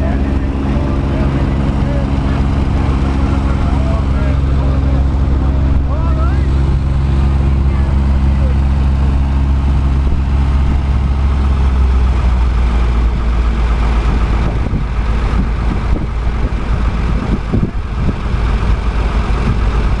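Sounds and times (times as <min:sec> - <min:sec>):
tractor engines idling: 0:00.0 - 0:20.0.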